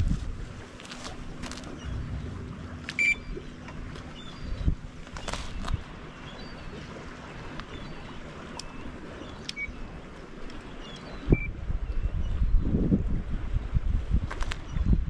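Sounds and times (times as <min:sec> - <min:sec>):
wind buffeting the microphone: 0:00.0 - 0:08.0, 0:10.8 - 0:15.0.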